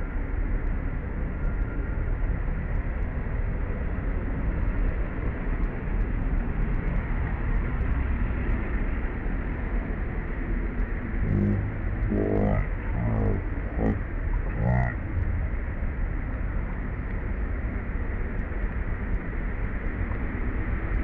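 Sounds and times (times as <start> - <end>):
low rumbling background noise: 0.0 - 21.0.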